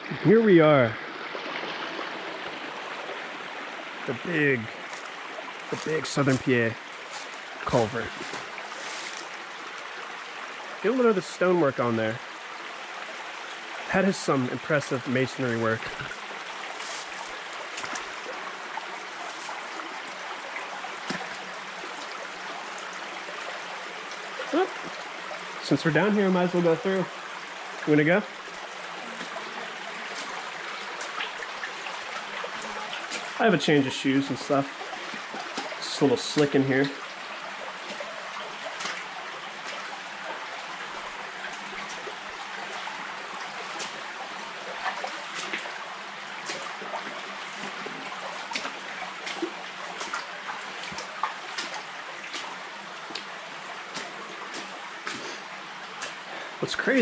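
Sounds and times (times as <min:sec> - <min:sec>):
stream water running: 0:00.0 - 0:57.0.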